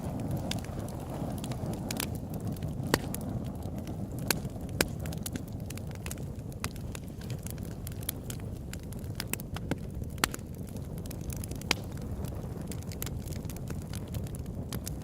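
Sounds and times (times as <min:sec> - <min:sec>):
campfire crackles and pops: 0:00.0 - 0:15.0
campfire low rumble: 0:00.0 - 0:15.0.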